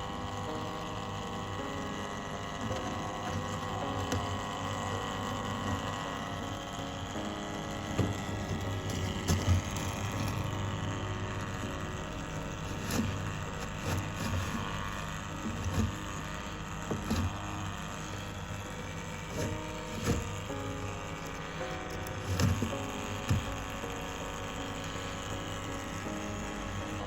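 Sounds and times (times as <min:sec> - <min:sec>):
small motor humming: 0:00.0 - 0:27.0.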